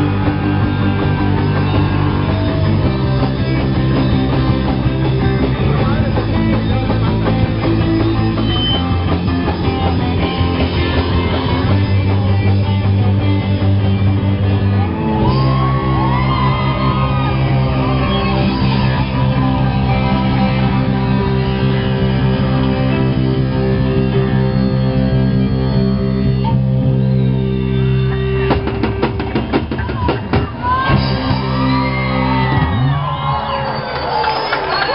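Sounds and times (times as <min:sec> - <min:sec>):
distorted electric guitar: 0:00.0 - 0:34.9
live rock band playing: 0:00.0 - 0:34.9.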